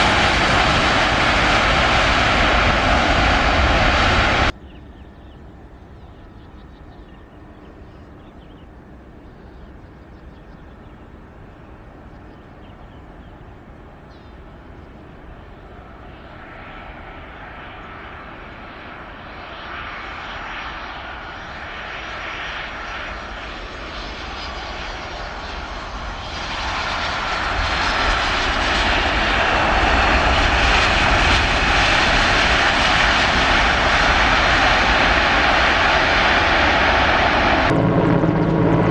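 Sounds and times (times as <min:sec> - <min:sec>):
airliner engines roaring: 0:00.0 - 0:38.9.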